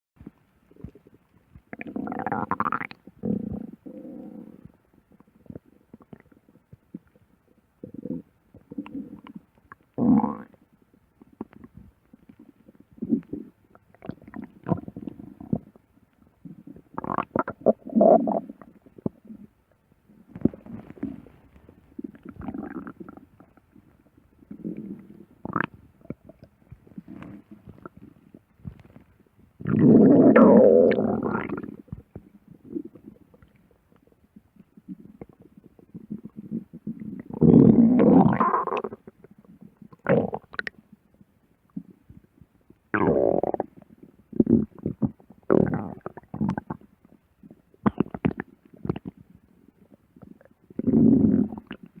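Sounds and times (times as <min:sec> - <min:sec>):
stomach growling and gurgling: 0:00.2 - 0:52.0.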